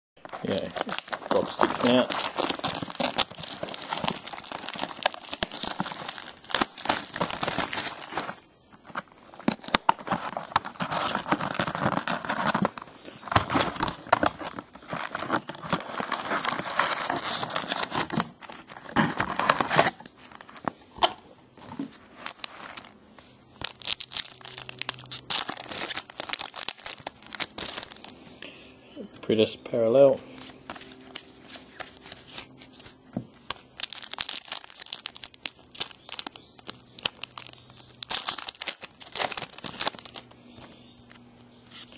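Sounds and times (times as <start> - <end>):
shrink wrap crinkling and tearing: 0.2 - 20.7, 22.0 - 28.3, 30.3 - 41.9
foil card packs handled: 0.2 - 20.8, 21.6 - 28.5, 30.3 - 41.9.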